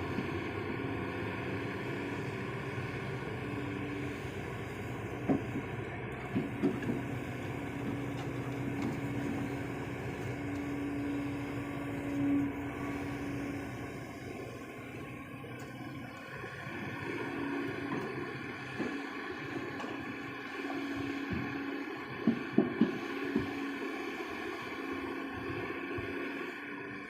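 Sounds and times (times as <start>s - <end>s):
excavator running: 0.0s - 27.0s
humming tone: 0.0s - 27.0s.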